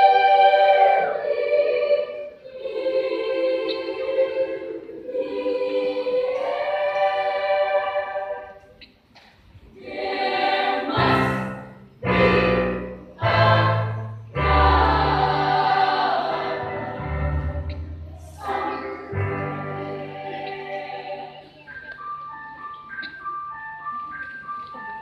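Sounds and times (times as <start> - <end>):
children's choir singing: 0.0 - 8.8, 9.6 - 25.0.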